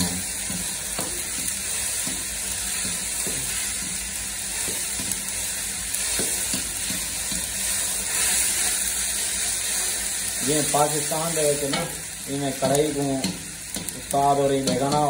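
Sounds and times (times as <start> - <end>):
onions and tomatoes sizzling: 0.0 - 15.0.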